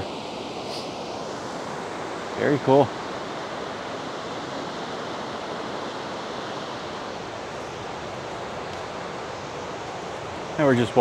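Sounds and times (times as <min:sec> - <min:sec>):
river rushing over rapids: 0:00.0 - 0:11.0.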